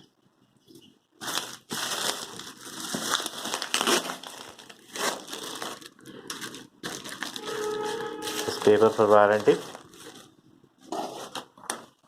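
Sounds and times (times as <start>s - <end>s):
packaging crinkling: 1.2s - 12.0s.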